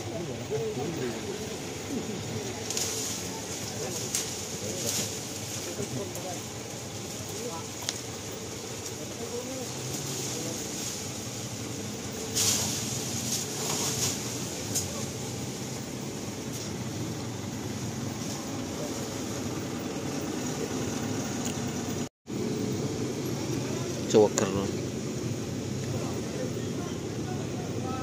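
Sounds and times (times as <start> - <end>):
faint voices: 0.0 - 22.1, 23.2 - 28.0
branches rustling: 0.0 - 28.0
truck rumbling: 0.0 - 28.0.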